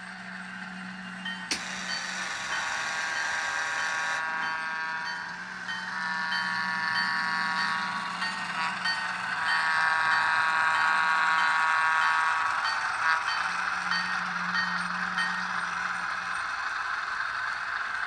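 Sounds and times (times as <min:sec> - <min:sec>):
low diesel engine sound: 0:00.0 - 0:18.0
model train horn blasts: 0:01.5 - 0:16.0.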